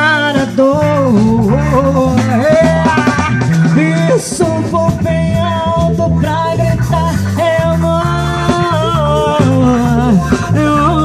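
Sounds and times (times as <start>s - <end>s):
pop rock song: 0.0s - 11.0s.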